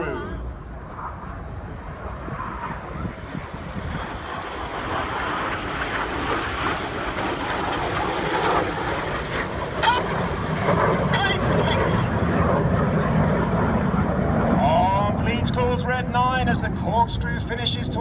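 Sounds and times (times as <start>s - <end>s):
jets flying overhead: 0.0s - 18.0s.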